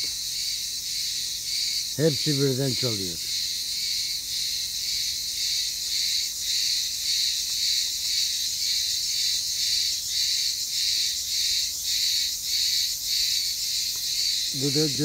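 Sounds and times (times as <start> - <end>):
cicadas chorus: 0.0 - 15.0.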